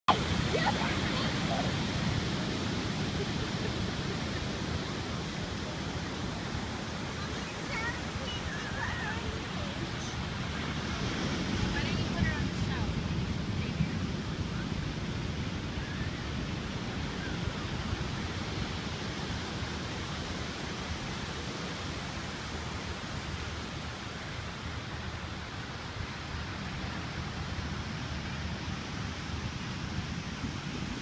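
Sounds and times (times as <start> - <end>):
steady rushing noise: 0.1 - 31.0.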